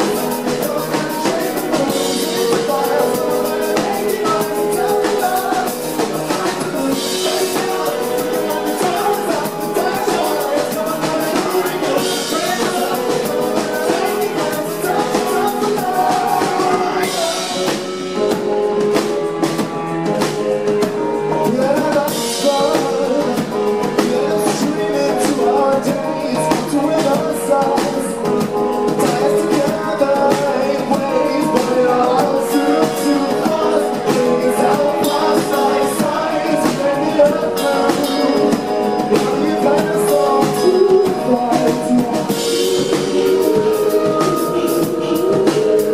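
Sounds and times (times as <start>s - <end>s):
drum kit: 0.0s - 45.9s
electric guitar: 0.0s - 45.9s
keyboard: 0.0s - 45.9s
person singing: 0.0s - 45.9s.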